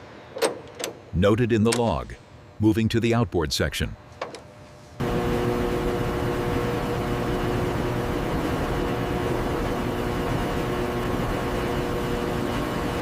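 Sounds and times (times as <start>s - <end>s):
machinery humming: 1.1s - 13.0s.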